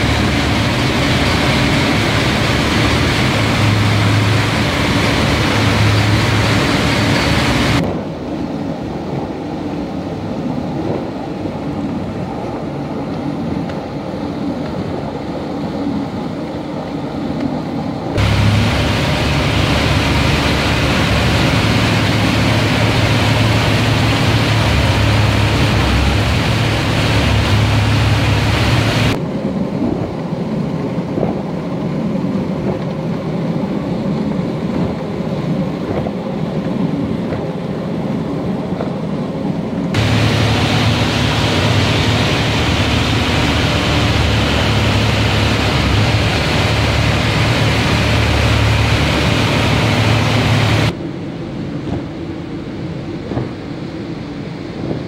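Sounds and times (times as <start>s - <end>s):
machinery low hum: 0.0s - 38.6s, 39.2s - 55.0s
wide rushing noise: 0.0s - 55.0s.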